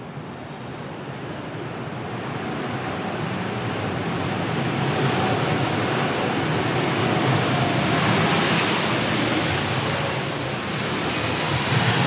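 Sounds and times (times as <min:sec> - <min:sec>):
jet engine roar: 0:01.6 - 0:12.0.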